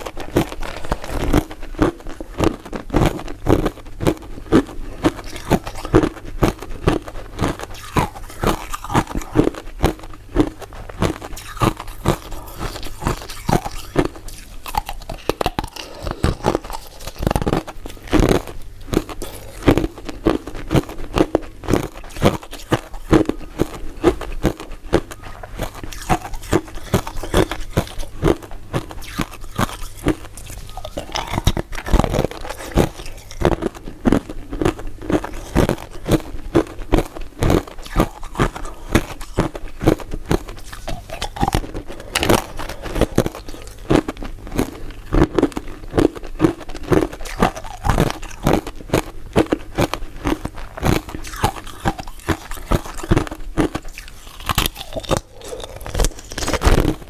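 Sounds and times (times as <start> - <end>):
crunching and chewing ice dessert: 0.0 - 57.0.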